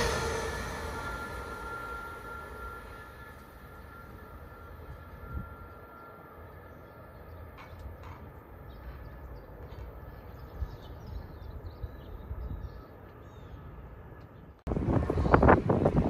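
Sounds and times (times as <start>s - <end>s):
train rumble moving away: 0.0s - 16.0s.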